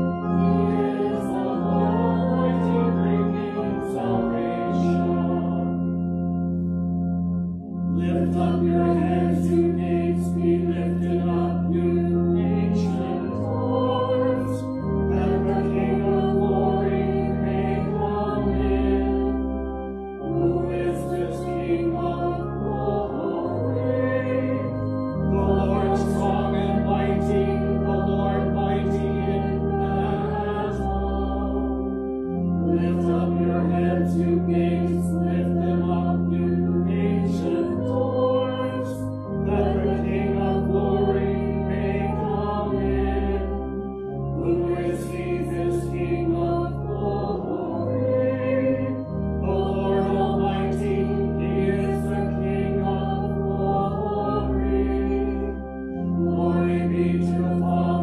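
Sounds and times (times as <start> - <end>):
congregation singing a hymn: 0.0 - 58.0
held keyboard chords: 0.0 - 58.0.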